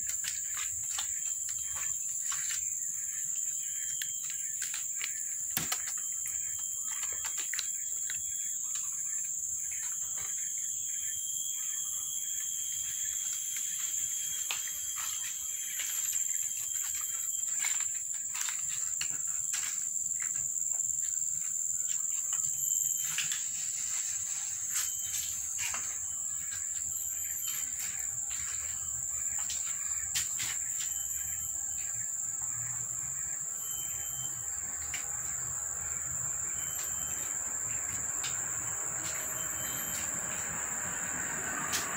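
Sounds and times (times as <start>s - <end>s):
insects shrilling: 0.0s - 41.9s.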